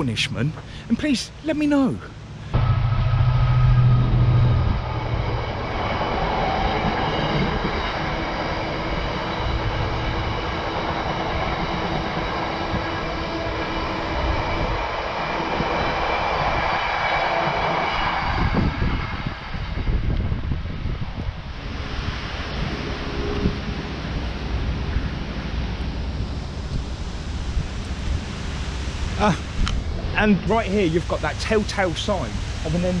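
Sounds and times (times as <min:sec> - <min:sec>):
train passing: 0:00.0 - 0:33.0.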